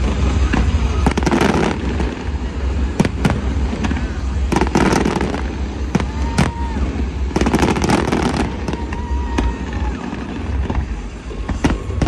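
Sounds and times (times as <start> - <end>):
fireworks bangs and crackles: 0.0 - 12.0
steady low rumble: 0.0 - 12.0.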